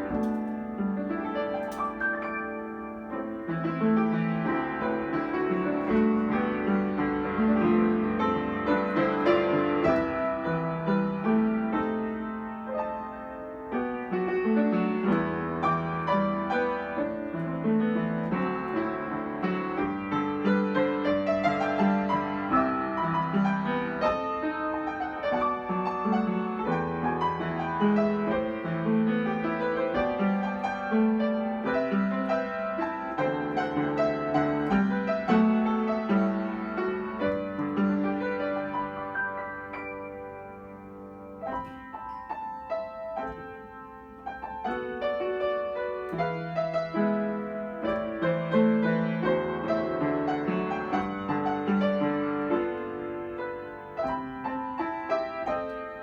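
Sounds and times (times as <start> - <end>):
solo piano melody: 0.0 - 56.0.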